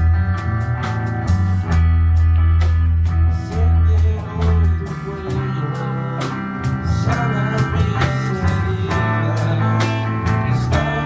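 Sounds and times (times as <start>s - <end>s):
deep held low notes: 0.0s - 11.0s
electric guitar lines: 0.0s - 11.0s
live band playing worship song: 0.0s - 11.0s.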